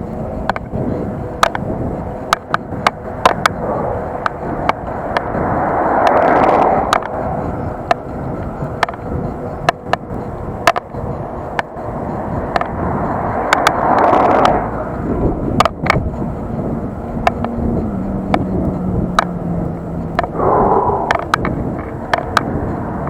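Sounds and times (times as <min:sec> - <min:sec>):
bicycle rolling on road: 0:00.0 - 0:23.0
bike clacking and rattling: 0:00.0 - 0:23.0
wind on microphone: 0:00.0 - 0:23.0.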